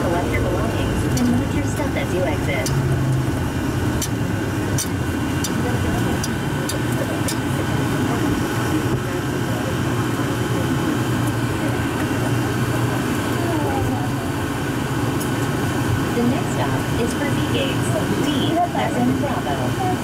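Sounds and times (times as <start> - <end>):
train rumbling through tunnel: 0.0 - 20.0.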